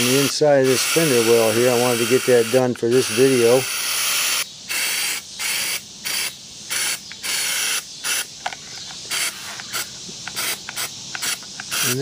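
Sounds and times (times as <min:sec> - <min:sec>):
spray hissing bursts: 0:00.0 - 0:08.4, 0:09.0 - 0:12.0.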